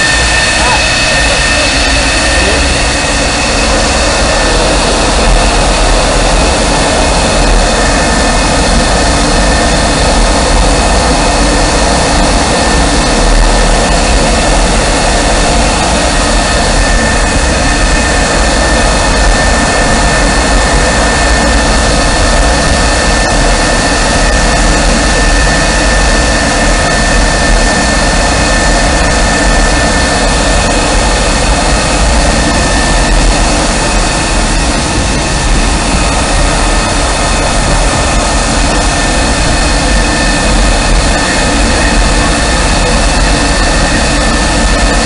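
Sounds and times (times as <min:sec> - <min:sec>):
jet fighter engines running: 0:00.0 - 0:45.0.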